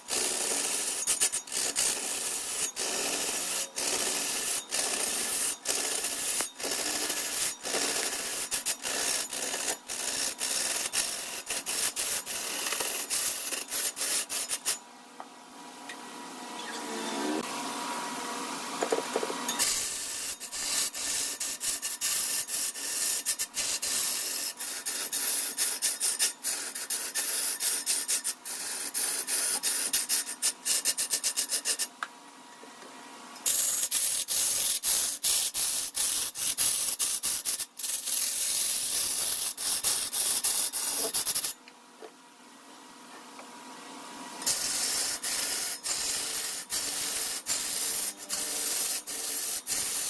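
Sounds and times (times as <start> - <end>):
tool scraping wood on lathe: 0.0 - 14.8, 19.5 - 31.9, 33.4 - 41.6, 44.4 - 50.0.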